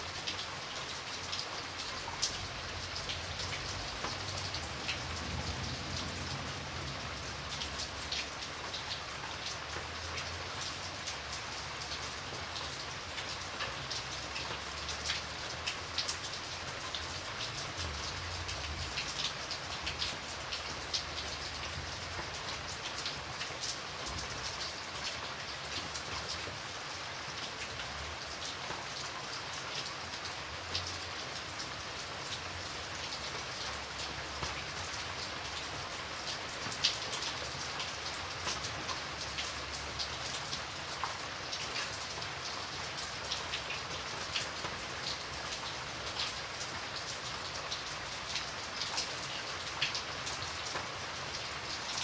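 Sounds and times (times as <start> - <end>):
rain falling on a surface: 0.0 - 52.0.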